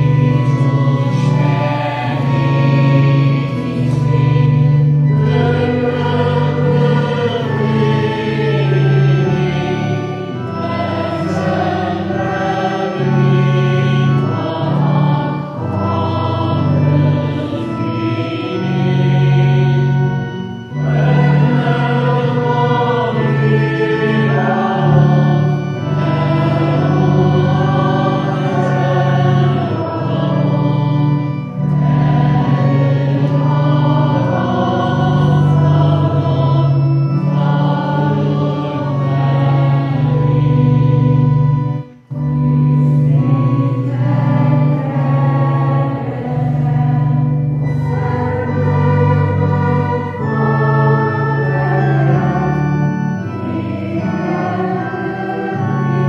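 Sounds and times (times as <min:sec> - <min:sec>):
congregation singing a hymn: 0:00.0 - 0:56.0
organ holding low notes: 0:00.0 - 0:56.0.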